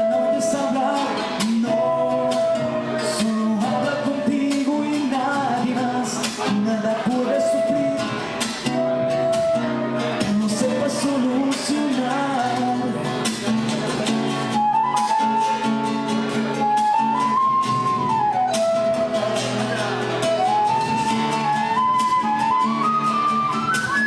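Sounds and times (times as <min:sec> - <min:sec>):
flute melody: 0:00.0 - 0:06.2, 0:06.8 - 0:12.7, 0:14.4 - 0:24.0
acoustic guitar: 0:00.0 - 0:24.0.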